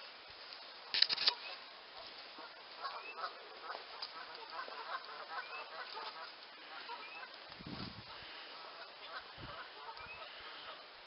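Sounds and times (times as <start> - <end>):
faint bird calls: 1.2 - 11.0.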